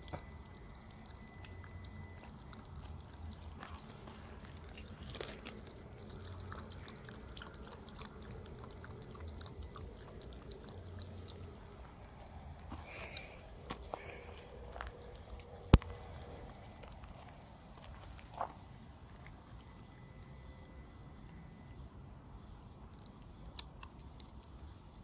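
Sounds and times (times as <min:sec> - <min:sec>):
animal chewing and crunching: 0:00.0 - 0:25.0
low steady rumble: 0:00.0 - 0:25.0.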